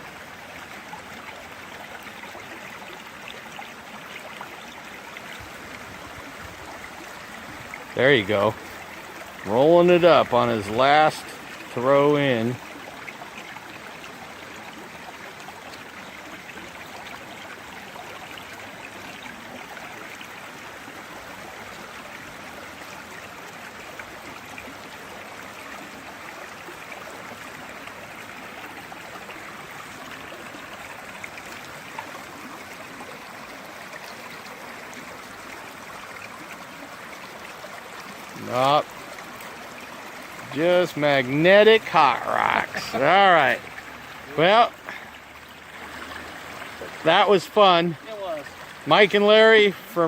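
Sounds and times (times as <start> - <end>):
stream water flowing: 0.0 - 50.0.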